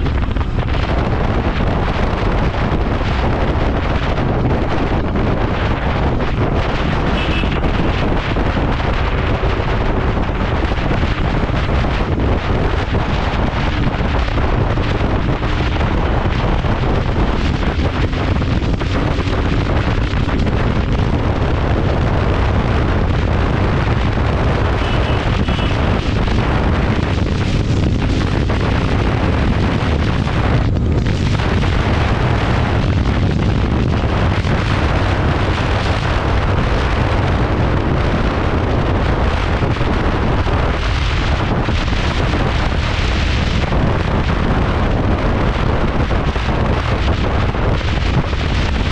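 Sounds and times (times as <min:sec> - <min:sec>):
motorcycle engine running: 0:00.0 - 0:45.6
wind buffeting microphone: 0:00.0 - 0:48.9.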